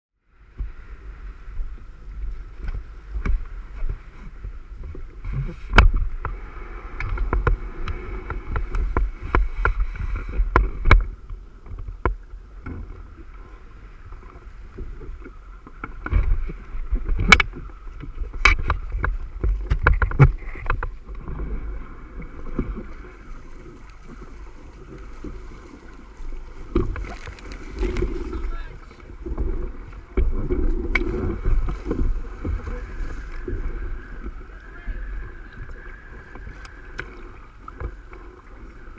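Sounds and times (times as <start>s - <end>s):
water sloshing against hull: 0.3s - 38.9s
wind buffeting microphone: 0.4s - 38.9s.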